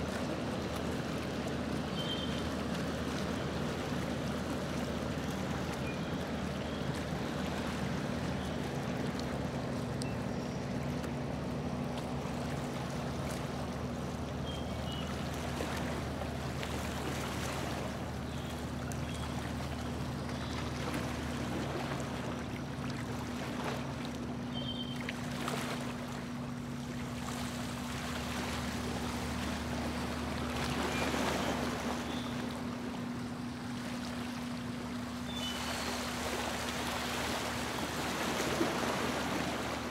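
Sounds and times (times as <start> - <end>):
boat motor humming: 0.0 - 39.9
water splashing along hull: 0.0 - 39.9.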